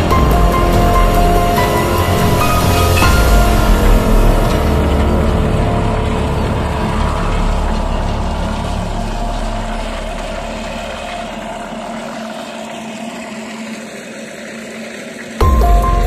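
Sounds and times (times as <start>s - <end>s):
concrete mixer humming: 0.0s - 16.0s.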